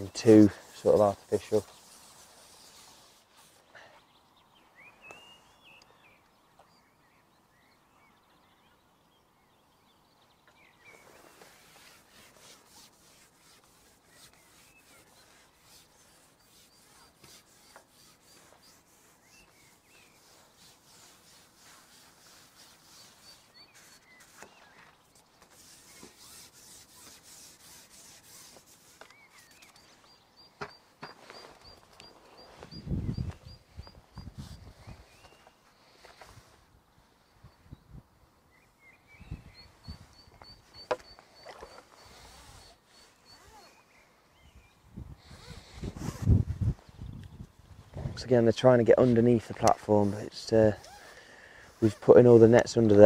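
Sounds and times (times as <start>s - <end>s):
quiet outdoor hiss: 0.0s - 53.0s.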